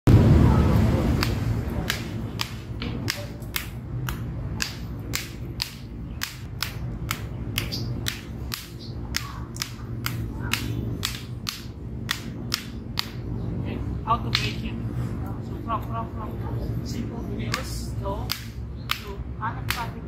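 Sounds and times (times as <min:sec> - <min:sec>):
low hum: 0:00.1 - 0:20.0.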